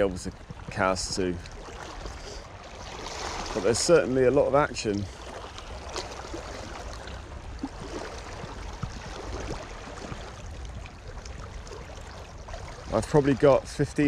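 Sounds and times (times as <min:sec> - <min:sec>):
faint small splashes: 0:00.0 - 0:13.7.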